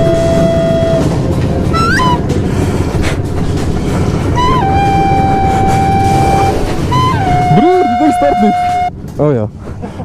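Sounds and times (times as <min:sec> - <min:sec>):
heavy rumble: 0:00.0 - 0:10.0.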